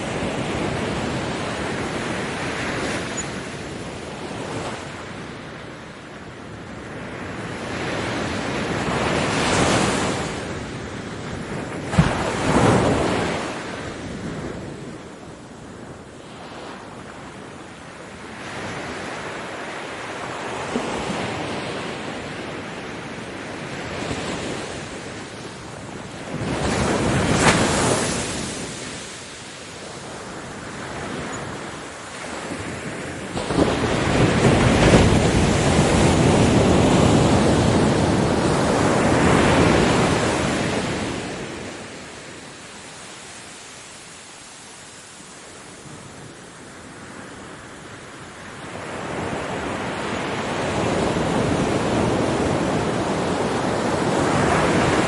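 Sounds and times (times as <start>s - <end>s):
ocean waves breaking: 0.0s - 14.9s, 18.1s - 47.2s, 48.2s - 55.0s.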